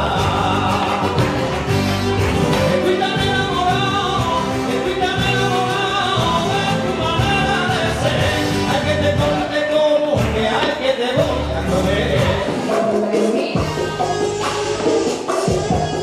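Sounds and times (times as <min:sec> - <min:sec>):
latin dance music with singing: 0:00.0 - 0:16.0.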